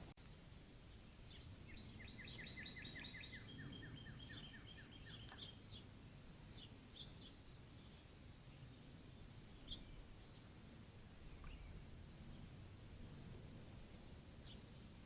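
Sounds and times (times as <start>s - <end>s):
songbird singing: 0.8s - 12.8s, 13.9s - 15.0s.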